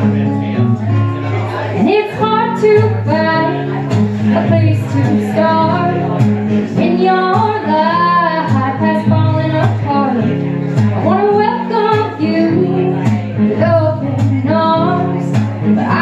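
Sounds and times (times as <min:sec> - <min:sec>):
acoustic guitar: 0:00.0 - 0:16.0
woman singing: 0:01.8 - 0:10.4, 0:11.0 - 0:16.0.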